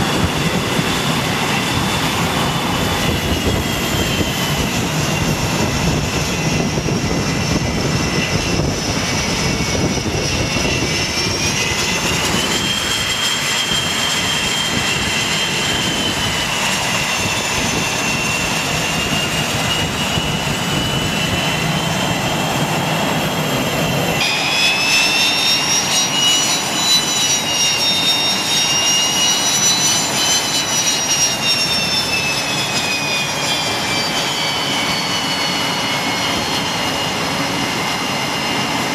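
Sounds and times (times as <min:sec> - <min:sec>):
jet engine roar: 0:00.0 - 0:38.9
jet engine whine: 0:00.0 - 0:38.9.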